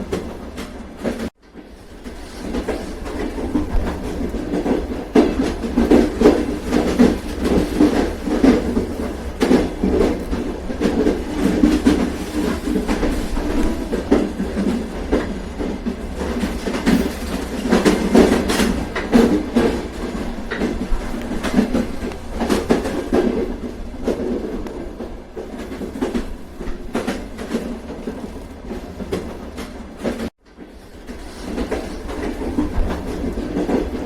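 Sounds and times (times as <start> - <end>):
train rumbling: 0.0 - 34.0
wheels clickety-clack on rails: 0.0 - 34.0.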